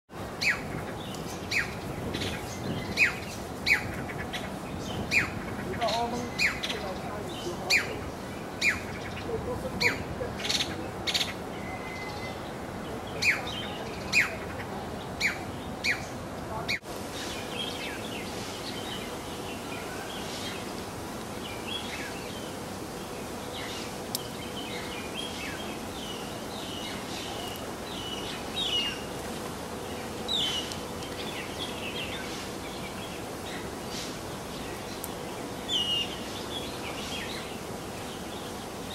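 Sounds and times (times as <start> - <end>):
birds chirping and chattering: 0.2 - 38.9
birds calling sharply: 0.3 - 38.9.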